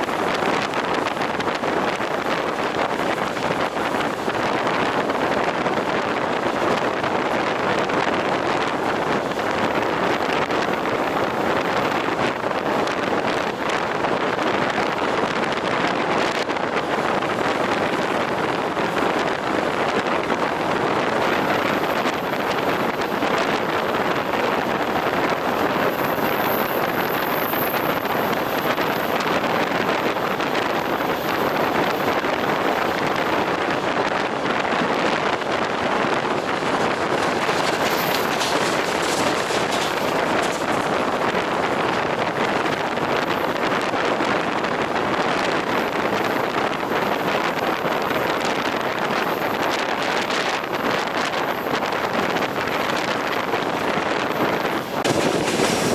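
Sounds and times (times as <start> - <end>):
train wheels on rails: 0.0 - 55.9.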